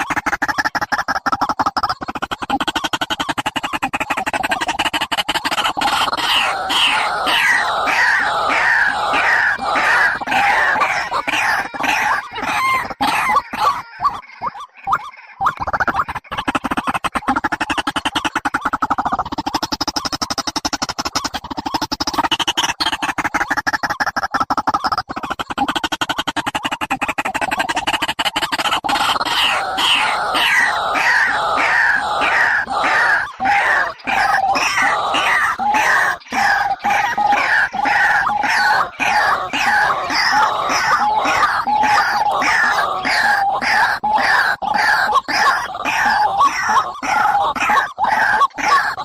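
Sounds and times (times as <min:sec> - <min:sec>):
bird calls sliding downward: 0:00.0 - 0:49.0
bird chirps and clicks: 0:00.0 - 0:49.0.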